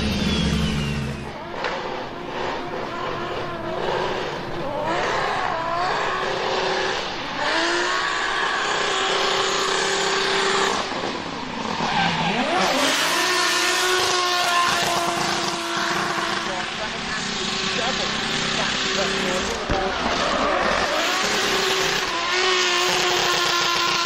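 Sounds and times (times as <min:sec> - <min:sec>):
car engine revving: 0:00.0 - 0:24.0
tyres squealing and skidding: 0:00.0 - 0:24.0.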